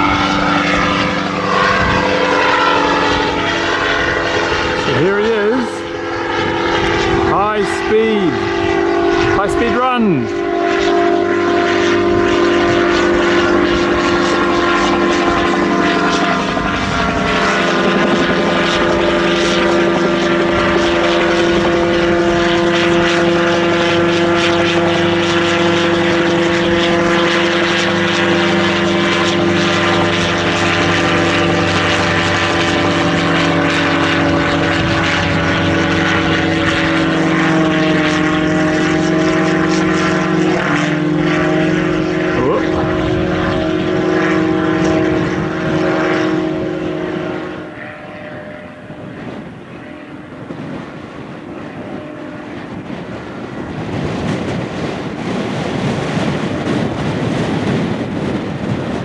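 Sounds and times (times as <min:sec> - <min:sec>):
autogyro engine and propeller droning: 0:00.0 - 0:59.0.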